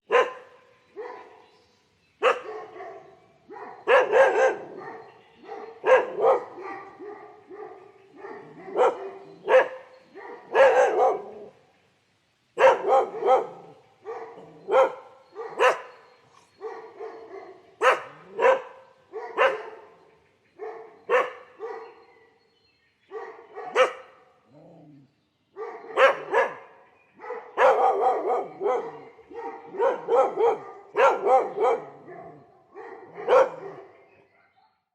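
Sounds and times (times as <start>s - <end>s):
dog barking: 0.1s - 1.4s, 2.2s - 11.5s, 12.6s - 20.0s, 20.6s - 22.4s, 23.1s - 24.2s, 25.6s - 34.9s.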